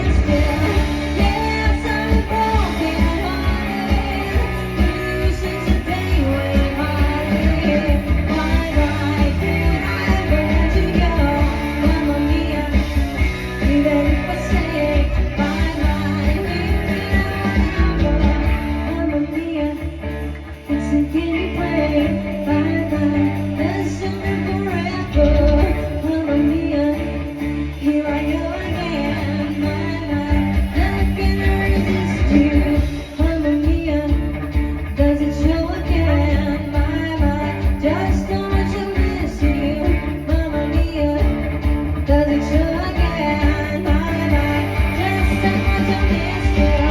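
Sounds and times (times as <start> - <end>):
bass: 0.0 - 46.9
guitar: 0.0 - 46.9
live rock band playing: 0.0 - 46.9
person singing: 0.0 - 46.9.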